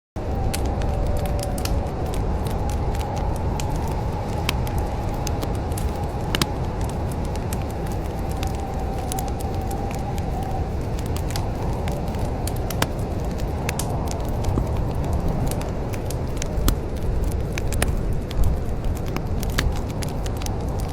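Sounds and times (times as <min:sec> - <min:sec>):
low rumble: 0:00.2 - 0:20.9
wood fire crackling: 0:00.2 - 0:20.9.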